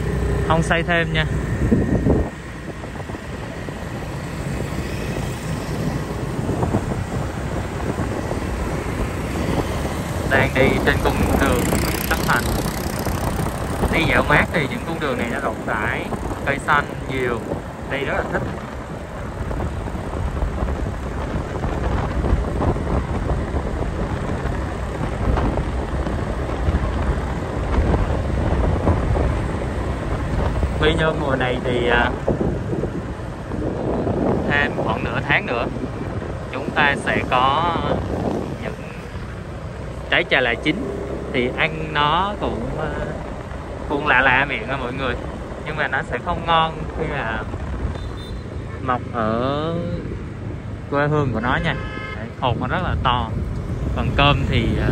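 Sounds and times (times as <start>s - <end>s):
motorbike traffic: 0.0s - 54.9s
road noise: 0.0s - 54.9s
wind on microphone: 0.0s - 54.9s.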